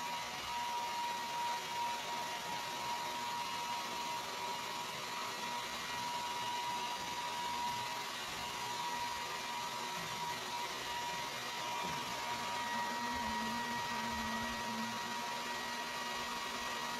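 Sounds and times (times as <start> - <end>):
hair dryer running: 0.0 - 16.9.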